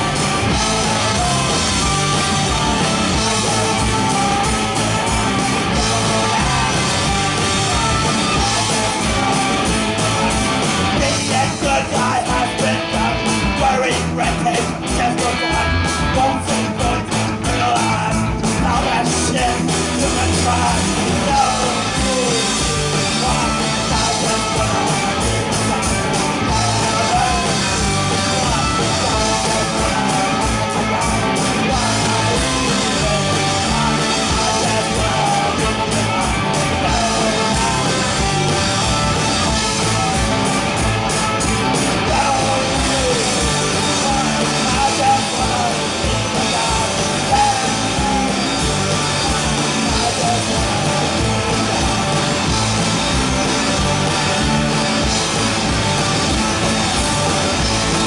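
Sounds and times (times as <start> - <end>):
person yelling singing: 0.0 - 51.2
rock band playing loudly: 0.0 - 58.0.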